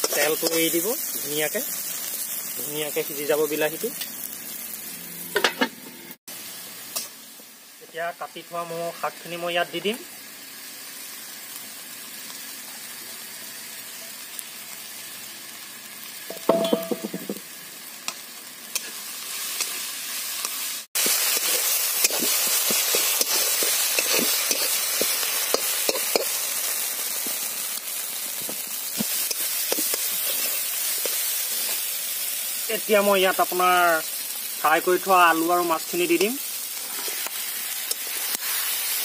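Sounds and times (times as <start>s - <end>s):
greens sizzling in a pan: 0.0s - 5.6s, 6.3s - 39.0s.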